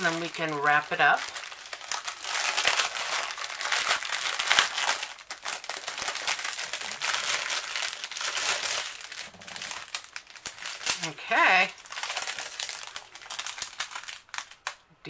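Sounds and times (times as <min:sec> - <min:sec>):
plastic bags crinkling: 0:00.0 - 0:14.9.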